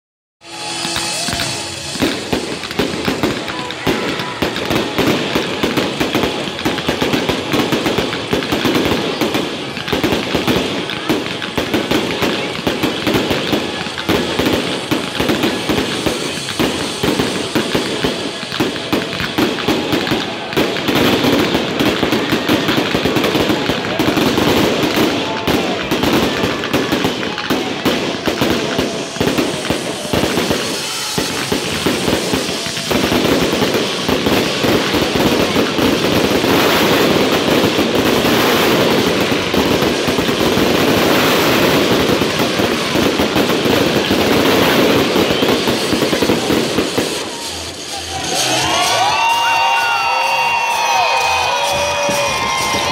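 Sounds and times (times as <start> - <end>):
fireworks bursting: 0.4 - 52.9.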